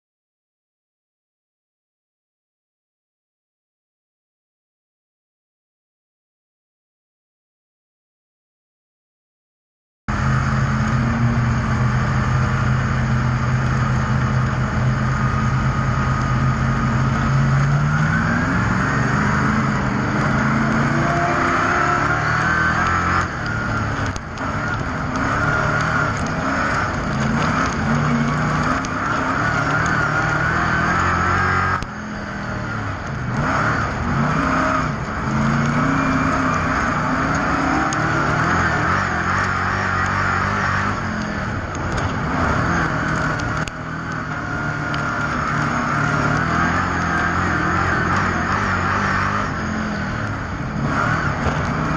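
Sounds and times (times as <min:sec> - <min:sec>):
race car engines revving: 0:10.1 - 0:51.9.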